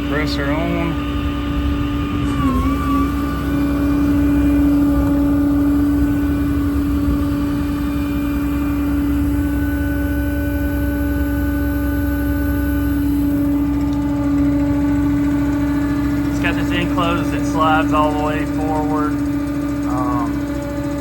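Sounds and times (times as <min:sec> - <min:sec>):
air compressor humming: 0:00.0 - 0:21.0
diesel engine running: 0:00.0 - 0:21.0.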